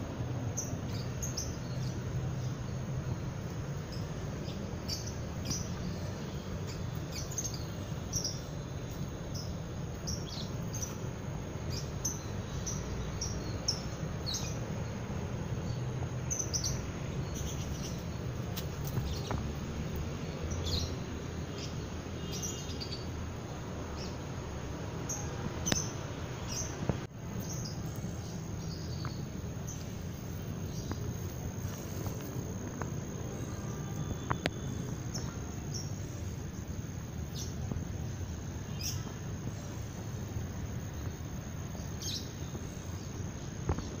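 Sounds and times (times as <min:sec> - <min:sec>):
insects trilling: 0:00.0 - 0:44.0
small birds chirping: 0:00.0 - 0:44.0.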